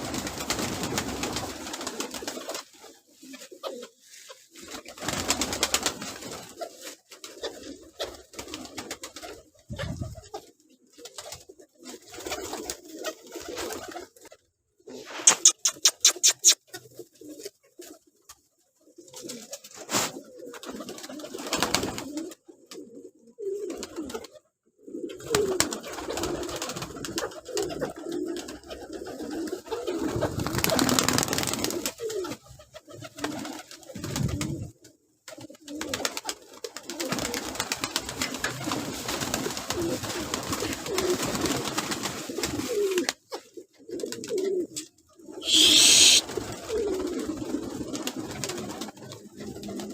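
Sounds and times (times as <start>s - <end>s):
pigeons cooing: 0.0s - 18.0s, 18.8s - 49.9s.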